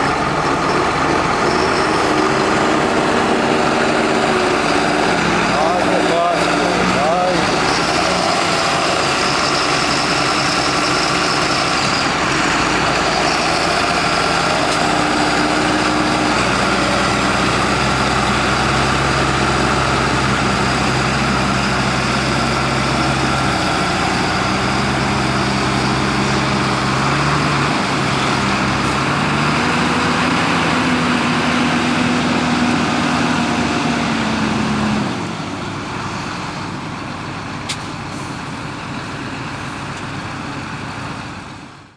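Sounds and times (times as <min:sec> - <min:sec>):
heavy diesel engines under load: 0:00.0 - 0:41.9.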